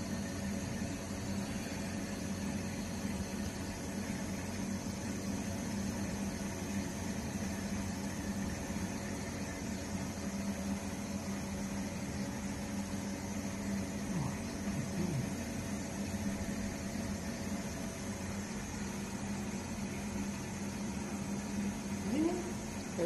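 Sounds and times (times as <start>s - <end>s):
machine humming: 0.0s - 23.0s.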